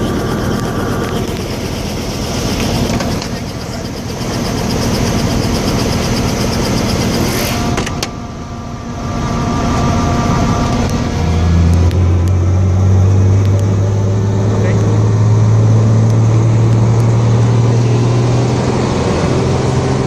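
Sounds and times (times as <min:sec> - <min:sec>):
deep hum: 0:00.0 - 0:20.0
helicopter rotor chopping: 0:00.0 - 0:20.0.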